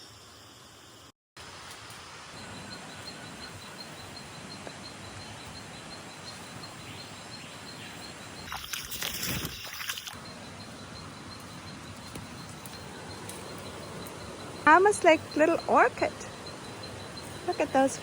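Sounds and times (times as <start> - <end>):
insect pulsing chirp: 0.0 - 18.0.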